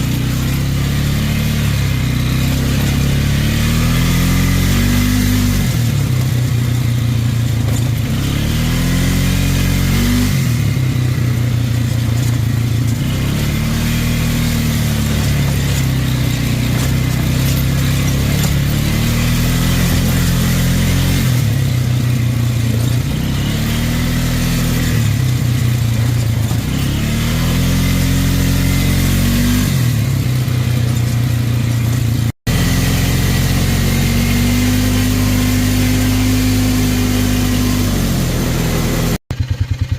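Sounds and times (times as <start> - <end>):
atv engine idling with throttle blips: 0.0 - 39.9.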